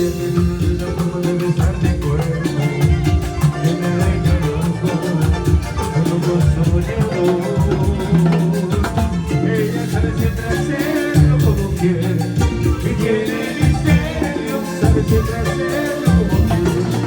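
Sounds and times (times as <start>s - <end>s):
band playing salsa music: 0.0s - 17.0s.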